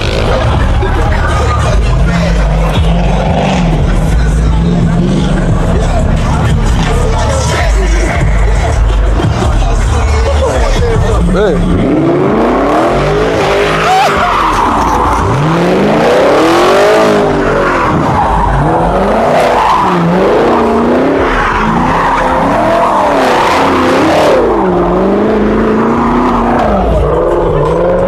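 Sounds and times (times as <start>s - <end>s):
car engine revving: 0.0s - 28.0s
tires screeching: 0.0s - 28.0s.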